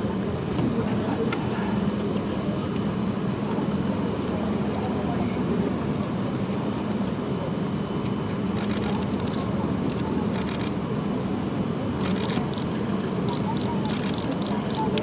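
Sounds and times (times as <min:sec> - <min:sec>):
outdoor background hum: 0:00.0 - 0:15.0.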